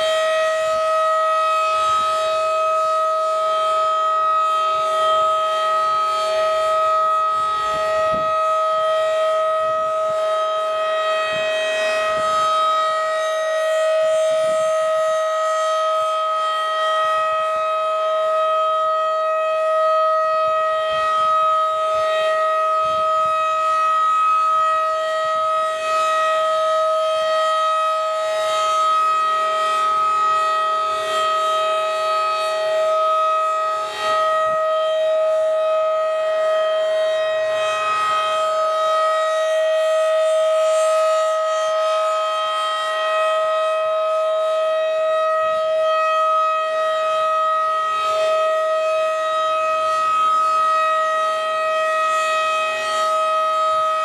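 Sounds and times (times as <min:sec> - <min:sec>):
tornado siren steady tone: 0:00.0 - 0:54.0.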